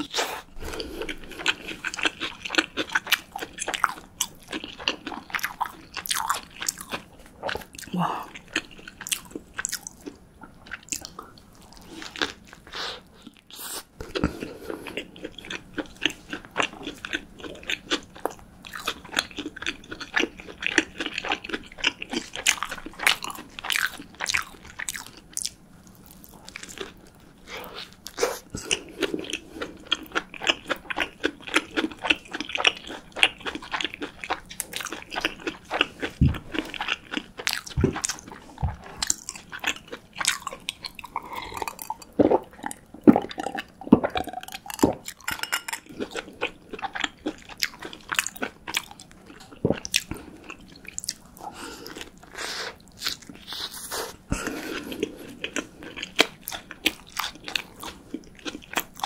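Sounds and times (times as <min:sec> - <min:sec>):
crunchy chewing of a burger: 0:00.0 - 0:59.0.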